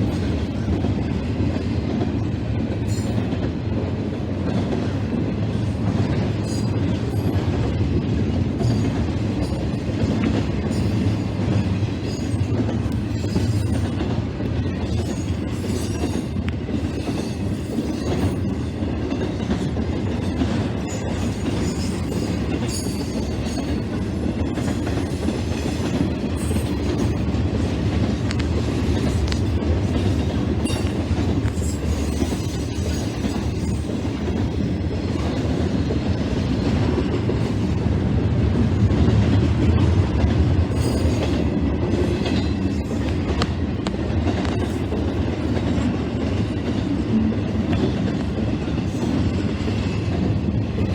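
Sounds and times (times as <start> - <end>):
train cars rumbling past: 0.0 - 50.9.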